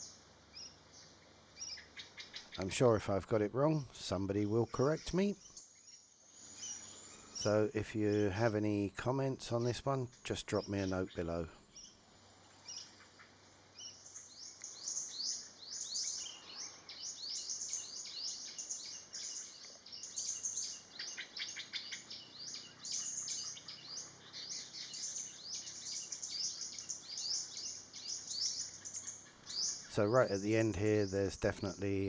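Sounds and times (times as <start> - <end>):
songbird chirping: 0.0 - 32.0.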